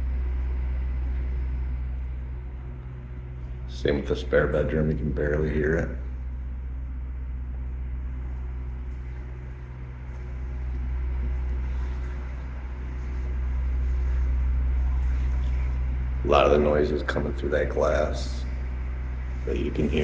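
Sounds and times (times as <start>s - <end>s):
generator low hum through walls: 0.0s - 20.0s.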